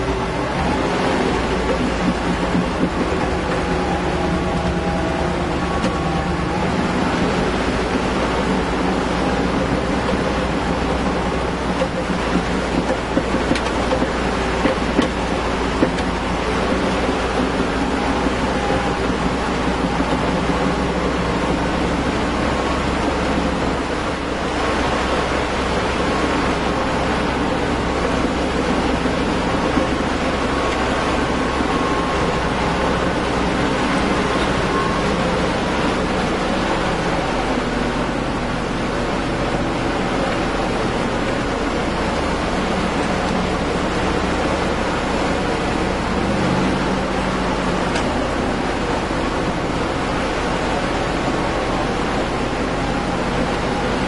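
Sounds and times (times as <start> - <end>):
off-road vehicle engine rumbling: 0.0 - 54.0.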